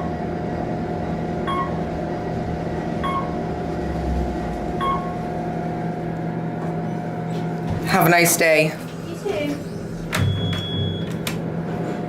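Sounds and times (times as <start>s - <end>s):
elevator electrical hum: 0.0s - 12.0s.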